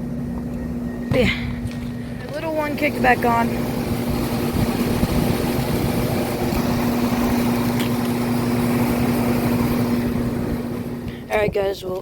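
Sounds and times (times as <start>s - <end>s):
compressor hum: 0.0s - 12.0s
fan rushing: 0.0s - 12.0s.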